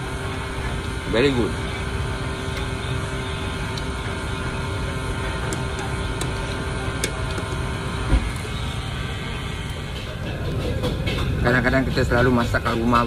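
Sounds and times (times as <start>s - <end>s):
food court background hum: 0.0s - 13.0s.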